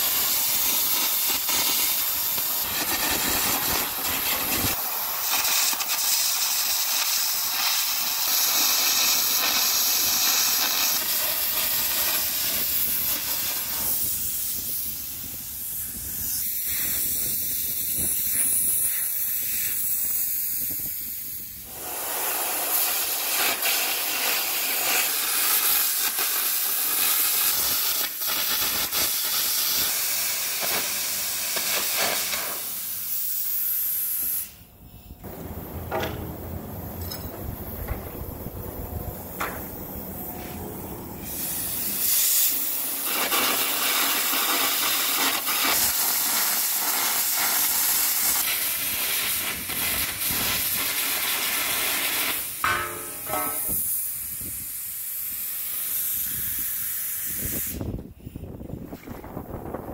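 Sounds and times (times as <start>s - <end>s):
compressed air jet hissing: 0.0s - 36.5s, 37.5s - 58.6s.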